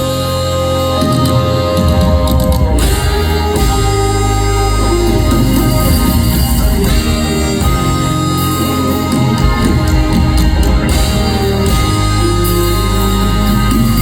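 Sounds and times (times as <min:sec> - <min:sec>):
bass: 0:00.0 - 0:14.0
electric guitar: 0:00.0 - 0:14.0
live band playing: 0:00.0 - 0:14.0.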